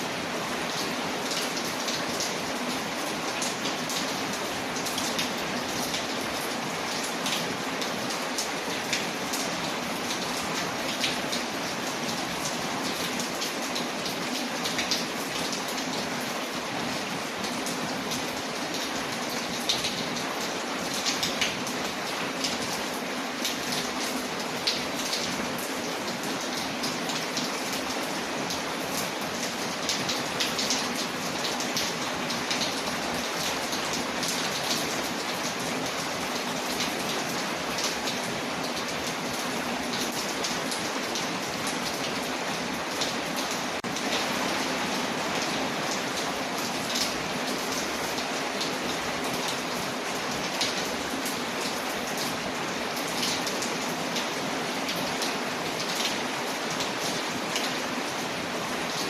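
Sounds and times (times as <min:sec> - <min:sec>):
rain pattering on a window: 0:00.0 - 0:59.0.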